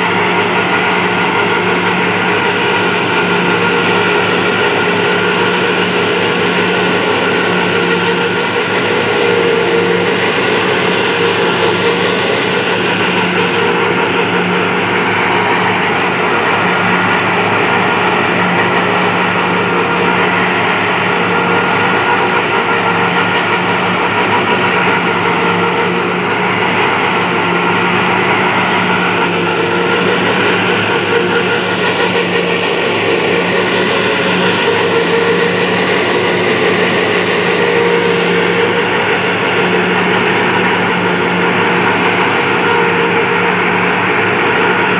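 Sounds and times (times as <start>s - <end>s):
forage harvester chopping grass: 0.0s - 44.9s
tractor engines droning: 0.0s - 44.9s.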